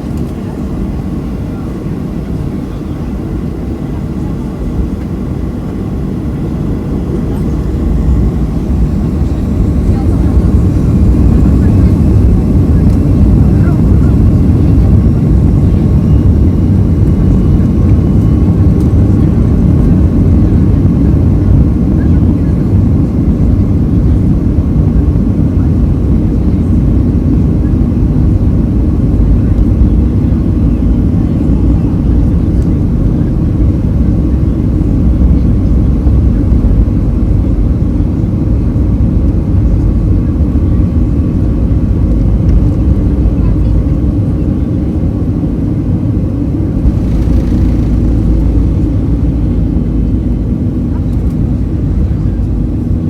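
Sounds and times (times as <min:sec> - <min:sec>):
faint steady whine: 0:00.0 - 0:53.0
jet engine cabin rumble: 0:00.0 - 0:53.0.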